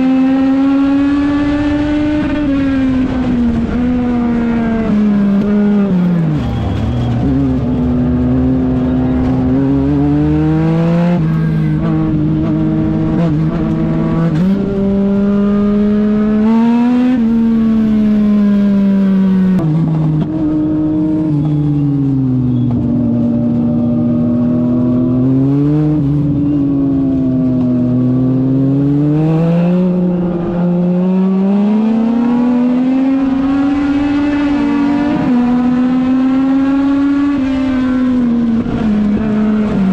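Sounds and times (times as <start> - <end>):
race car engine revving: 0.0 - 21.4, 27.0 - 39.9.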